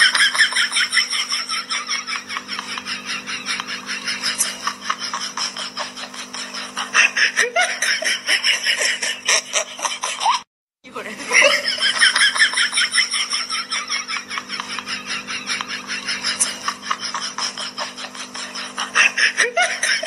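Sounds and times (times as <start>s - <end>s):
person laughing hard: 0.0s - 10.5s, 11.2s - 20.0s.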